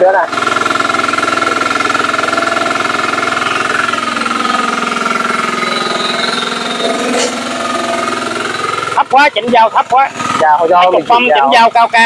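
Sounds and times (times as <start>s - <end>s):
flail mower engine pulsing: 0.0s - 12.0s.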